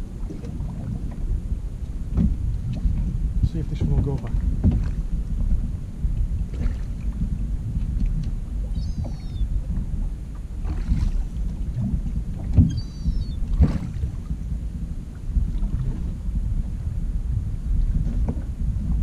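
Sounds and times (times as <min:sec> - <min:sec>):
water against boat hull: 0:00.0 - 0:19.0
wind rumble on microphone: 0:00.0 - 0:19.0.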